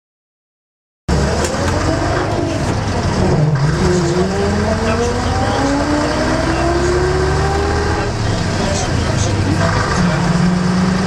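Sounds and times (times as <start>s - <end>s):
bus diesel engine driving: 1.1s - 11.0s.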